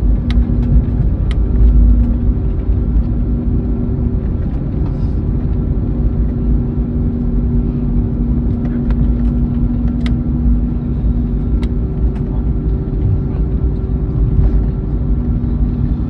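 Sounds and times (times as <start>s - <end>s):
low rumble of aircraft cabin: 0.0s - 16.0s
steady hum: 0.0s - 16.0s.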